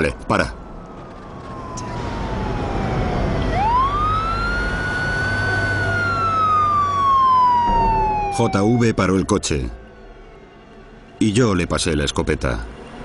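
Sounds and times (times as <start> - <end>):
police siren wailing: 0.0 - 11.1.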